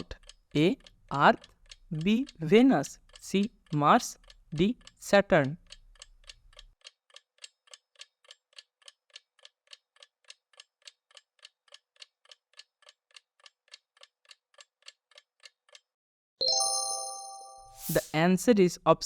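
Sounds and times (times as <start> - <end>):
clock ticking: 0.0 - 15.9.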